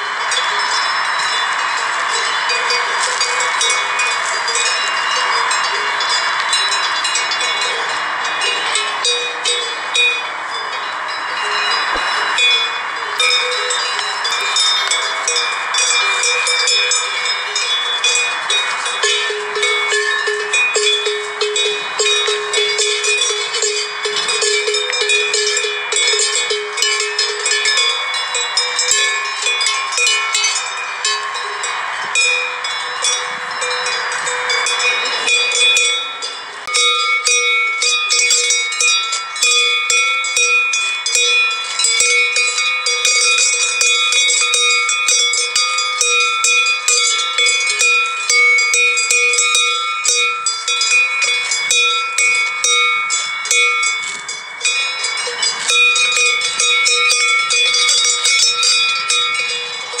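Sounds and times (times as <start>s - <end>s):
sheep bells clanging: 0.0s - 60.0s.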